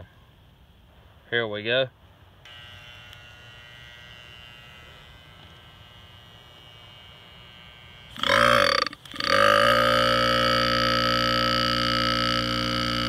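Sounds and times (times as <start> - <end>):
compressor humming: 2.4 - 13.0
compressor motor running roughly: 2.5 - 13.0.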